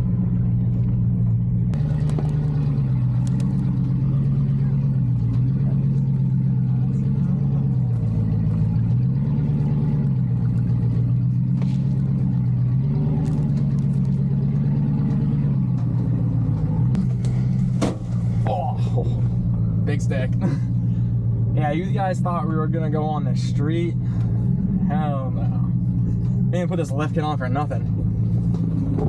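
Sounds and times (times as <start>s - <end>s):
truck engine drone: 0.0s - 29.0s.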